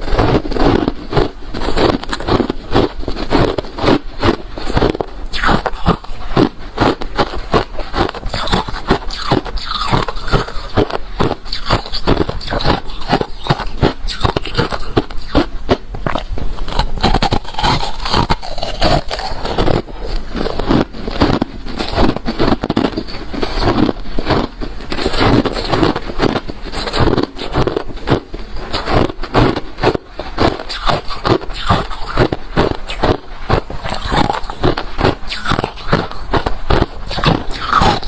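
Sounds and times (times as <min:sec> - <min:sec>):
crushed ice being chewed: 0:00.0 - 0:38.0.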